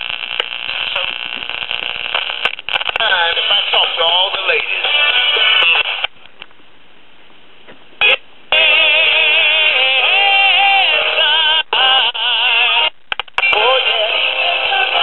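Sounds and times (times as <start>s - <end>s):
music with singing on radio: 0.0s - 6.1s, 8.0s - 15.0s
radio tuning static: 0.0s - 6.1s, 8.0s - 15.0s
faint radio hiss: 0.0s - 15.0s.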